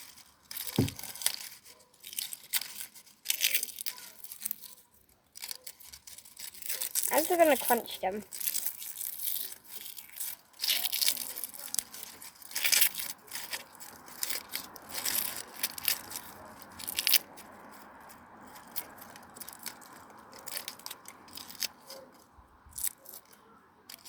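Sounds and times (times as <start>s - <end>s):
dry plant matter crunching: 0.0s - 24.0s.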